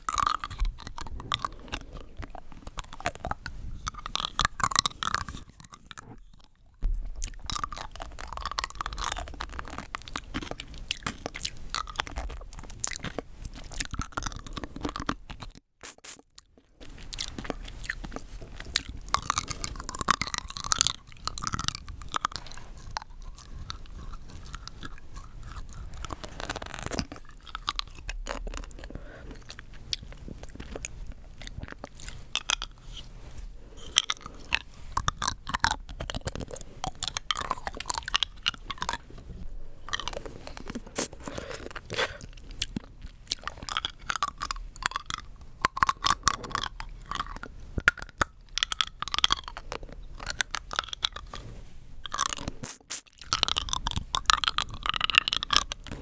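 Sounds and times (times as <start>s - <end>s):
hard candy crunching in mouth: 0.0s - 56.0s.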